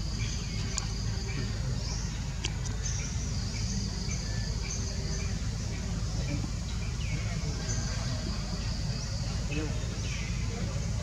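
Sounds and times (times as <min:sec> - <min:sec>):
insects buzzing: 0:00.0 - 0:11.0
low steady rumble: 0:00.0 - 0:11.0.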